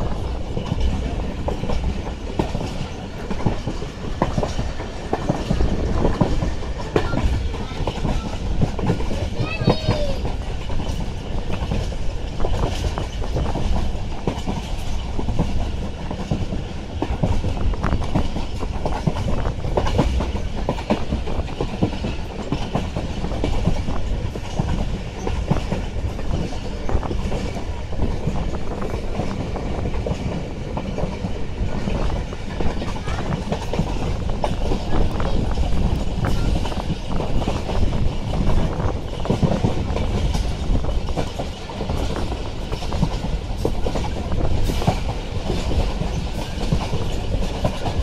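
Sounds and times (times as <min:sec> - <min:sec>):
train rumble: 0:00.0 - 0:48.0
train wheels clattering on rails: 0:00.0 - 0:48.0.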